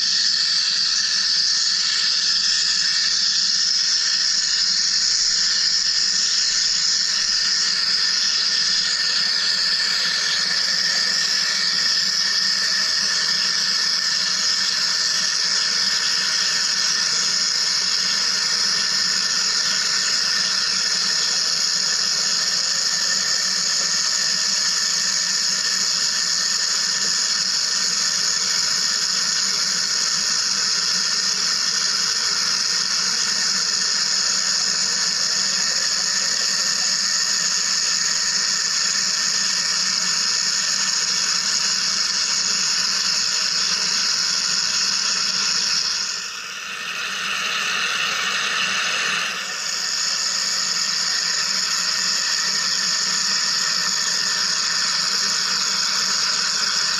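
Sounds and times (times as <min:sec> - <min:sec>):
machine hissing and whining: 0:00.0 - 0:56.9.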